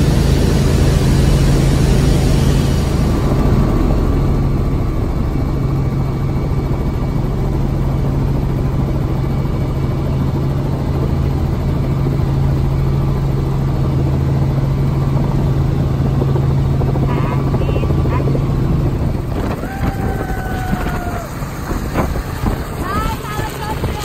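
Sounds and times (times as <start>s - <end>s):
helicopter engine and rotor hum: 0.0s - 24.0s.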